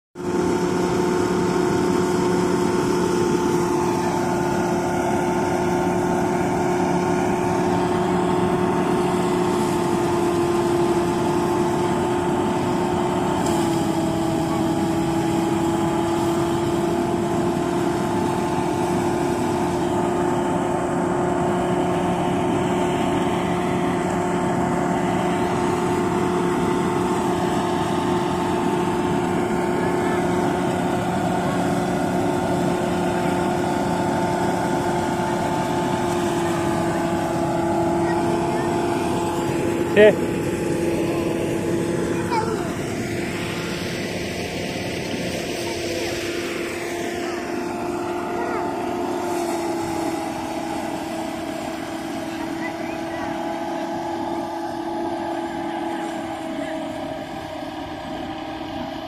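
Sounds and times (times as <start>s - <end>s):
rice thresher droning: 0.2s - 59.0s.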